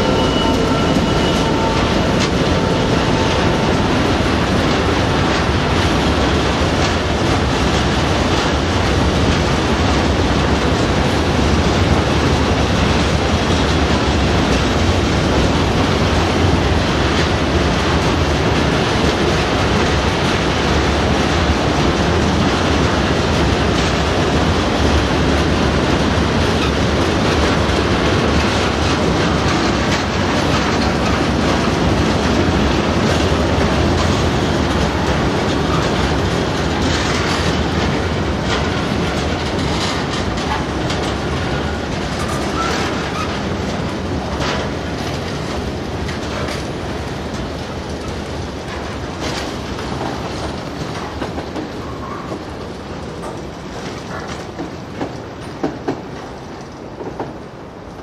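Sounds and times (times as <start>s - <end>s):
clickety-clack over rail joints: 0.0s - 58.0s
wheels rumbling on rail: 0.0s - 58.0s.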